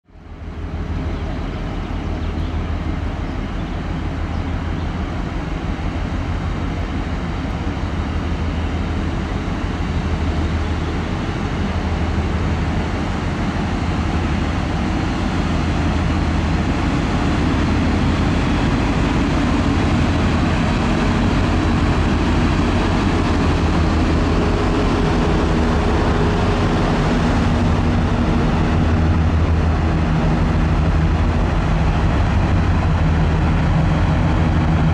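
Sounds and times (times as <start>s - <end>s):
ship engines droning: 0.1s - 34.9s.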